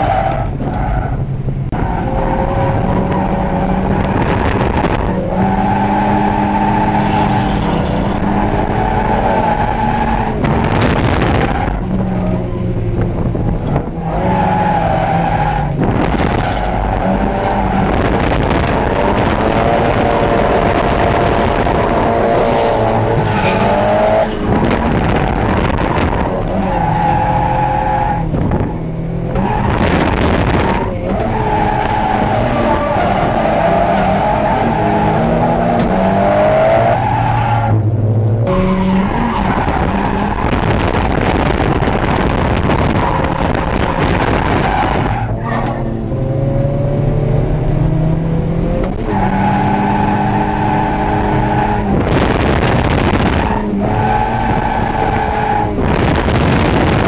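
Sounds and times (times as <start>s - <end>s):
car engine revving: 0.0s - 57.0s
tyres skidding: 0.0s - 57.0s.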